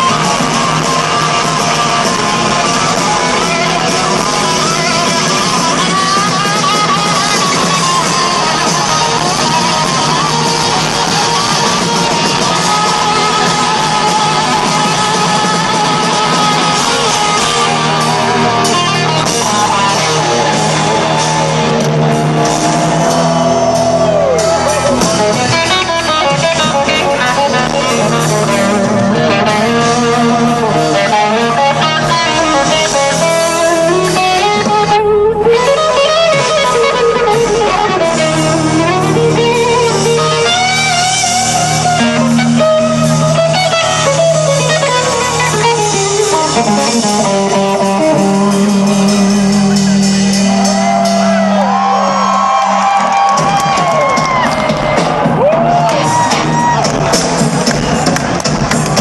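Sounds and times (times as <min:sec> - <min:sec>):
electric guitar lead: 0:00.0 - 0:59.0
live rock band playing: 0:00.0 - 0:59.0.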